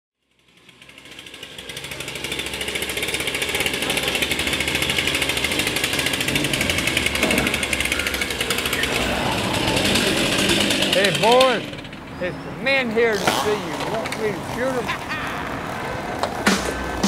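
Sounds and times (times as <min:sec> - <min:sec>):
chainsaws idling: 0:00.2 - 0:17.0.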